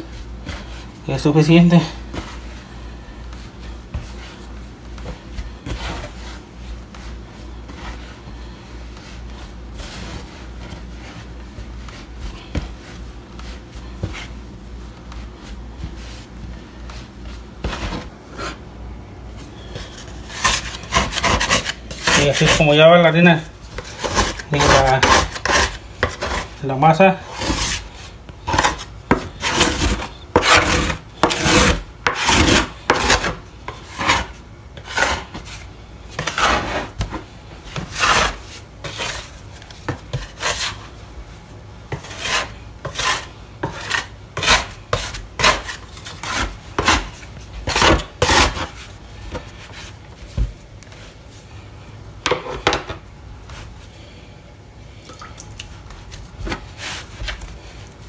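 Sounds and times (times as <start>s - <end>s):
dough scraping in a bowl: 0.0s - 18.6s, 19.6s - 41.0s, 41.9s - 50.3s, 55.8s - 57.8s.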